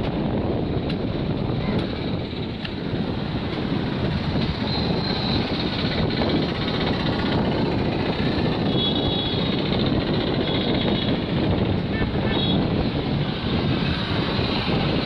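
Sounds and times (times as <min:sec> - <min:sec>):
diesel locomotive engines droning: 0:00.6 - 0:15.0.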